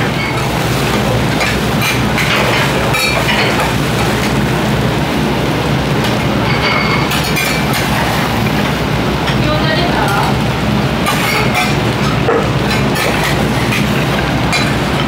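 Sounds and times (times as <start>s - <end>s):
food sizzling on a griddle: 0.1s - 5.7s, 6.3s - 15.0s.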